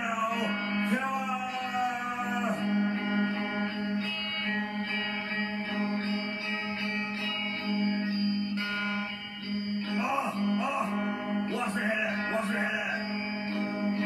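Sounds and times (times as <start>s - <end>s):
plucked string notes: 0.0s - 14.0s.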